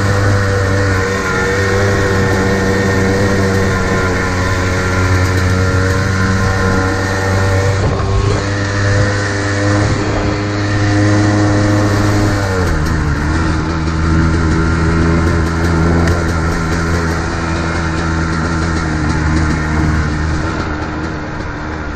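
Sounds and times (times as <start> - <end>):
dirt bike engine at high revs: 0.0 - 21.9
wind rushing over microphone: 0.0 - 21.9.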